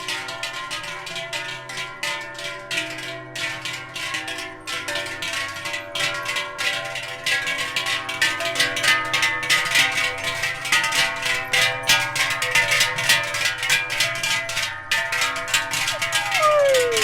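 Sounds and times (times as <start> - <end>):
cowbells clanging: 0.0 - 17.0.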